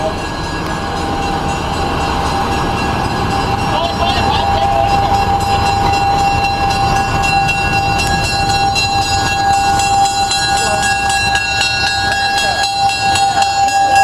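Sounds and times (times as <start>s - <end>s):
locomotive rumbling along track: 0.0s - 14.0s
steady high whine: 0.0s - 14.0s.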